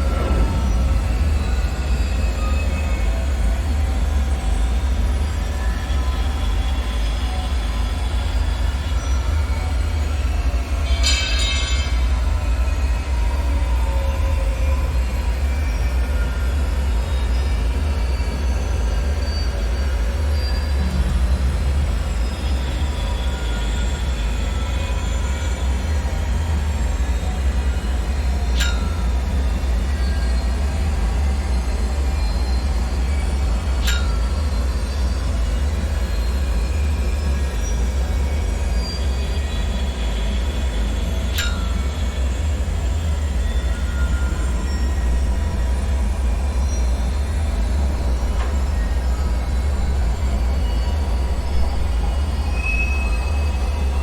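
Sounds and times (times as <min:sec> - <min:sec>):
deep rumbling drone: 0:00.0 - 0:06.9, 0:11.9 - 0:54.0
thin metallic whining tones: 0:00.0 - 0:54.0.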